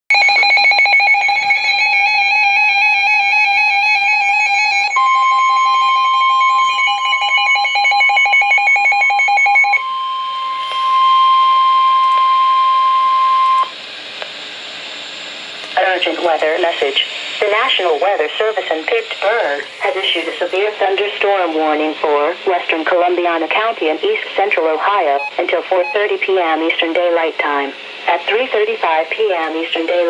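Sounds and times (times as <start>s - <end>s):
rapidly pulsing electronic alarm: 0.1s - 13.8s, 15.1s - 27.5s
steady warning alarm tone: 0.1s - 13.8s, 14.6s - 30.0s.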